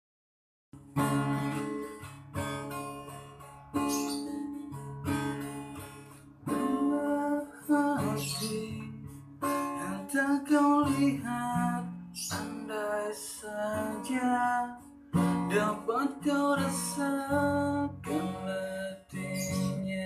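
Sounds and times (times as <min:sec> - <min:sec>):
acoustic guitar chords ringing: 0:00.8 - 0:20.0.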